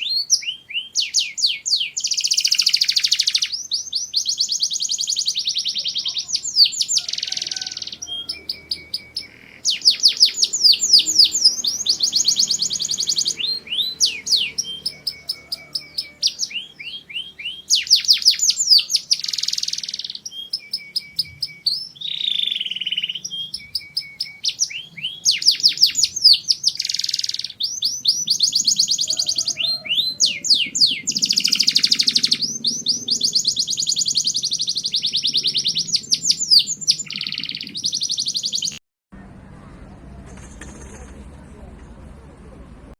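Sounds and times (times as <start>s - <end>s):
canary singing trills: 0.0s - 38.8s.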